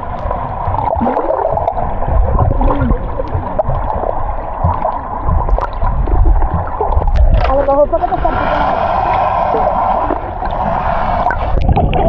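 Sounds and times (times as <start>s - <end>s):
water rushing and gurgling: 0.0s - 12.0s.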